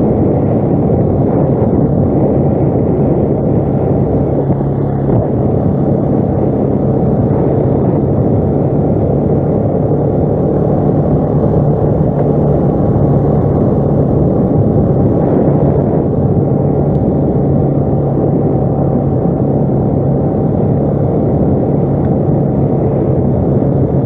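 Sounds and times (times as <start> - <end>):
atv engine running: 0.0 - 24.0
road noise: 0.0 - 24.0.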